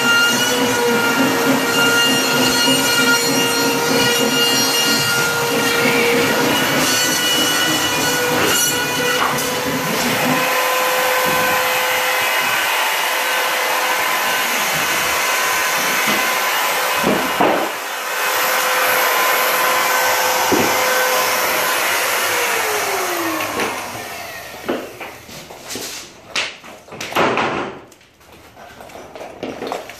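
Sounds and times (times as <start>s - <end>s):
power tool motor whining: 0.0s - 24.8s.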